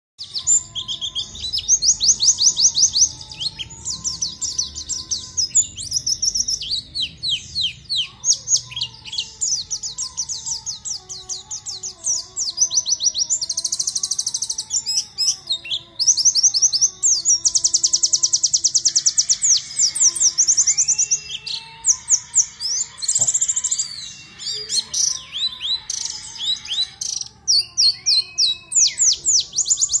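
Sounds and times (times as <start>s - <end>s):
bird singing rapid trills: 0.2s - 30.0s.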